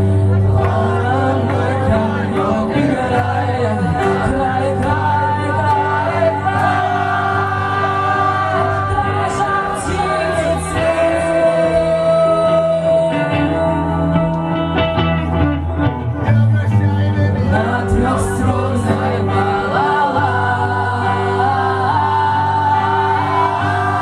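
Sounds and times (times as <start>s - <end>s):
person singing: 0.0s - 15.0s, 17.3s - 24.0s
live band playing: 0.0s - 24.0s.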